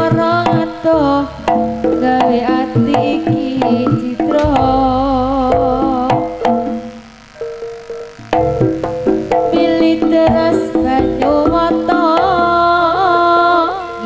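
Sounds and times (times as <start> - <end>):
hand-drum strokes: 0.0 - 12.8
wavering melody with vibrato: 0.0 - 14.0.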